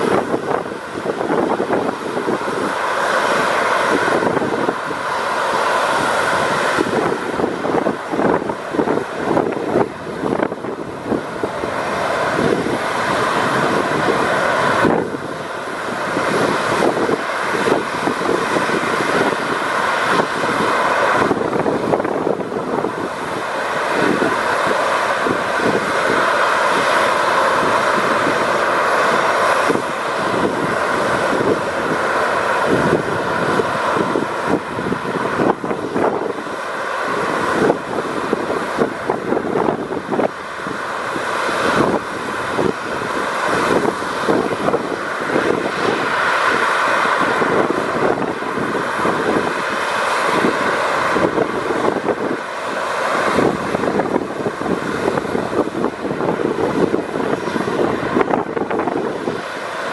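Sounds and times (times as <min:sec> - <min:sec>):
jet engine rumble: 0:00.0 - 0:59.9.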